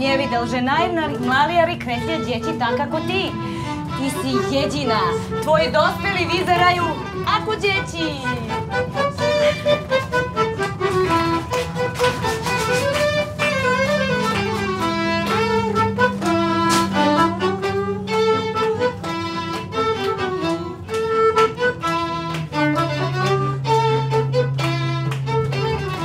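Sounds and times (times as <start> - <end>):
violin melody: 0.0 - 26.0.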